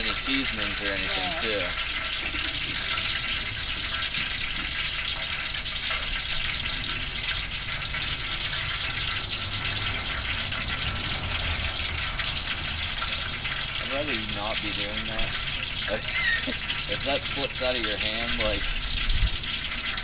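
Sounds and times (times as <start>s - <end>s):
oil sizzling in pot: 0.0s - 20.0s
propane burner hiss and rumble: 0.0s - 20.0s.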